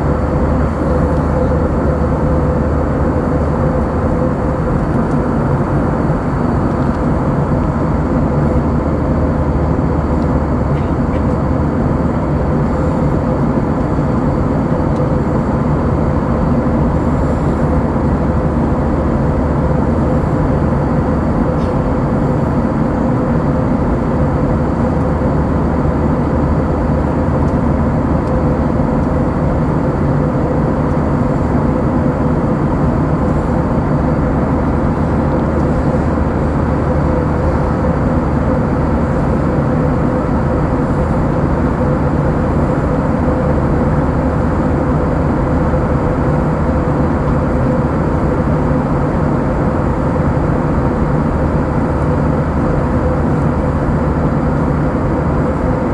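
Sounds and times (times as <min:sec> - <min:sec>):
constant hum: 0:00.0 - 0:55.9.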